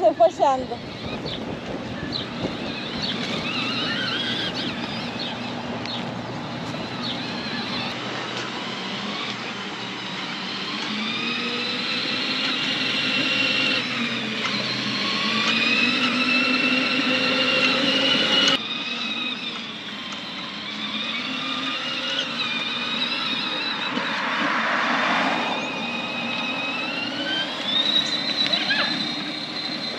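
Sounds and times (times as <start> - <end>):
electric toy vehicle motor whining: 0.0 - 29.9.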